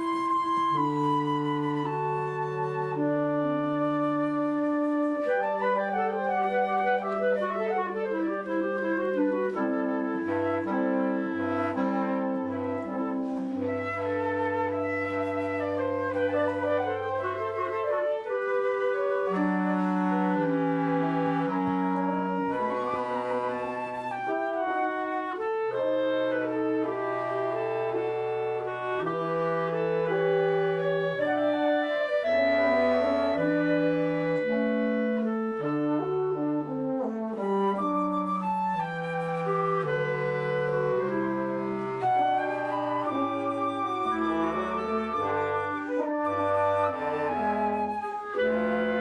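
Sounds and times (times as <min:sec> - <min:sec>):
flute and woodwind lines: 0:00.0 - 0:49.0.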